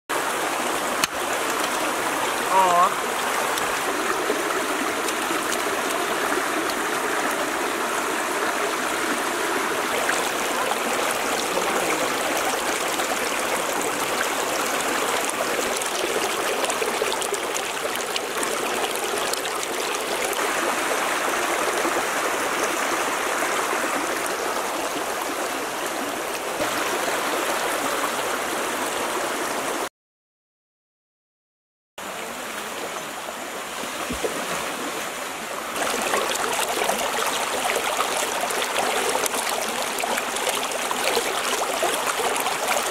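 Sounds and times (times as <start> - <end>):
water rushing over rocks: 0.1 - 29.8, 32.6 - 42.9.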